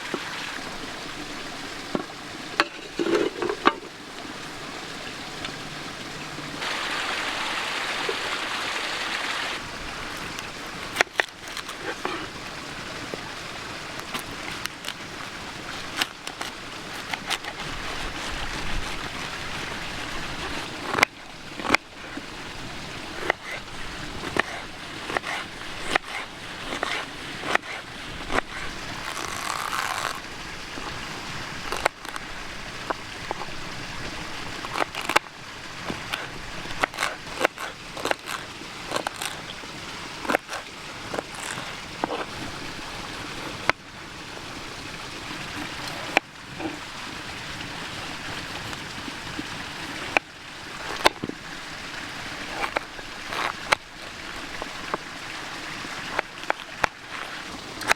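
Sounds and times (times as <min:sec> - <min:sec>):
creek running: 0:00.0 - 0:57.9.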